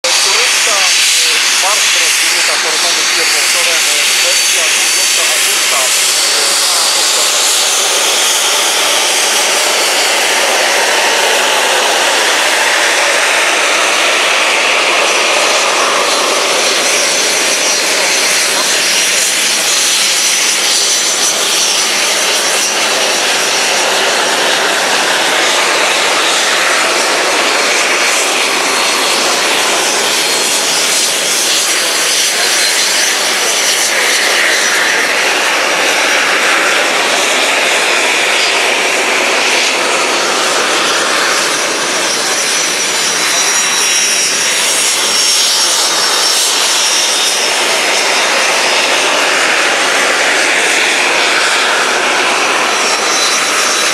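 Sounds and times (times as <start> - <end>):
loud jet roar: 0.0 - 53.9.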